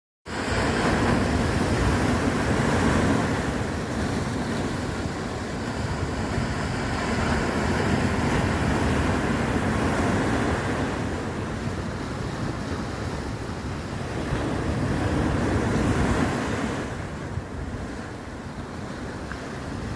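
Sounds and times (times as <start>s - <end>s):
ocean waves breaking: 0.3s - 19.9s
wind buffeting microphone: 0.5s - 19.9s.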